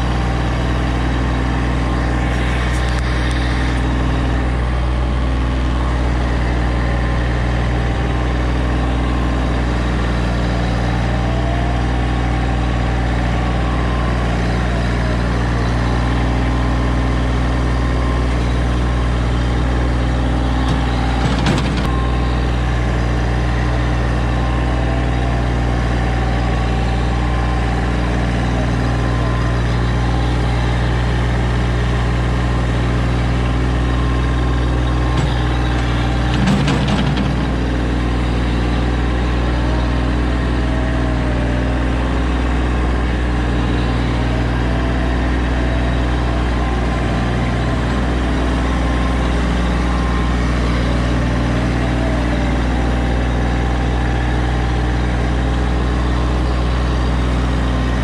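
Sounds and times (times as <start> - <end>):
small engine humming: 0.0 - 58.0.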